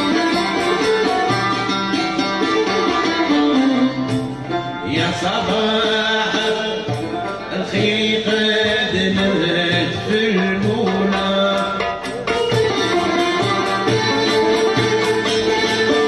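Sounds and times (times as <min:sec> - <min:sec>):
bowed violin: 0:00.0 - 0:16.0
plucked banjo and lute: 0:00.0 - 0:16.0.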